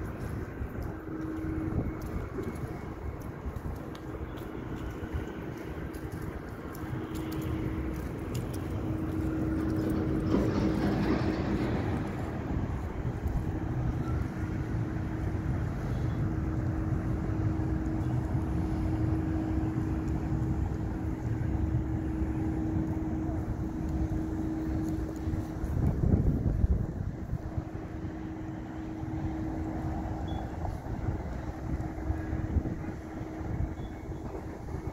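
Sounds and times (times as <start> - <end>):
constant hum: 0.0 - 34.9
low city rumble: 0.0 - 34.9.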